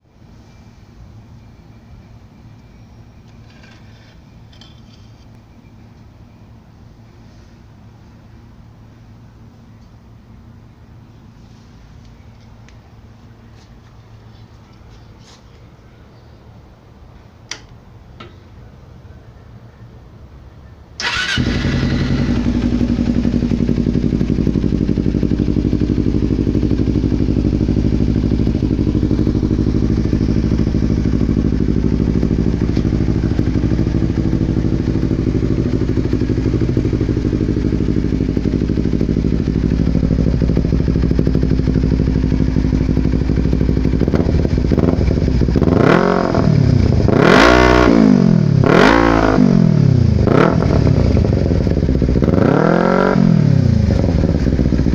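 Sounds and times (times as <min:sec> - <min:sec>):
motorcycle engine idling and revving: 0:00.0 - 0:11.2, 0:21.0 - 0:54.9.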